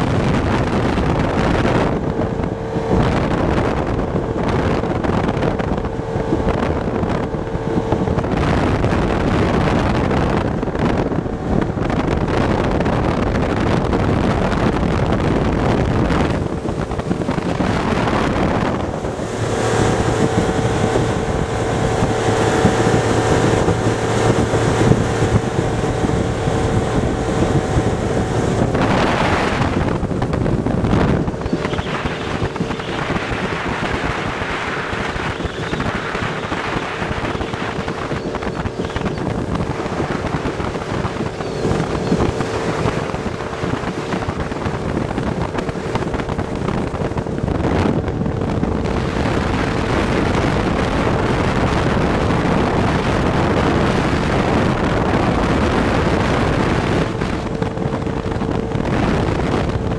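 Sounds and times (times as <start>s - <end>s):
motorboat engine drone: 0.0s - 59.9s
water rushing along hull: 0.0s - 59.9s
wind buffeting microphone: 0.0s - 59.9s.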